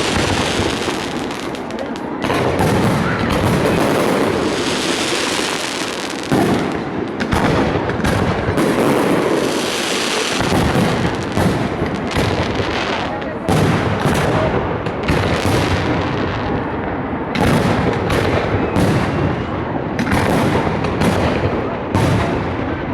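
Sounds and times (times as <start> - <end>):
fireworks bursting and crackling: 0.0 - 22.9.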